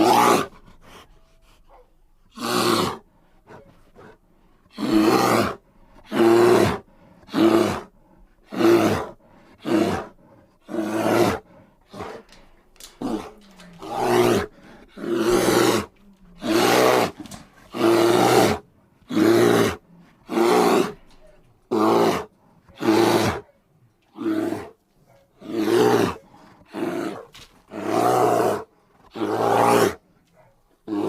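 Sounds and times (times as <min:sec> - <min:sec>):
bear roaring: 0:00.0 - 0:00.8, 0:02.3 - 0:23.5, 0:24.1 - 0:24.8, 0:25.4 - 0:30.0.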